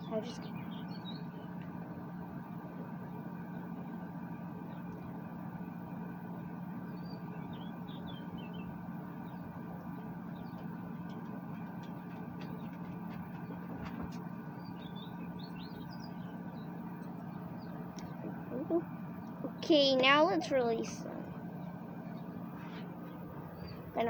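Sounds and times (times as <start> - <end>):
low mechanical hum: 0.0 - 24.0
small birds chirping: 0.0 - 24.0.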